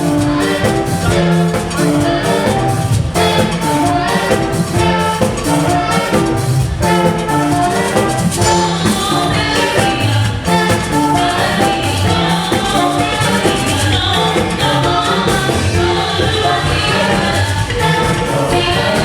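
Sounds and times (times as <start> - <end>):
band with horns playing: 0.0 - 19.0
voices singing: 0.0 - 19.0.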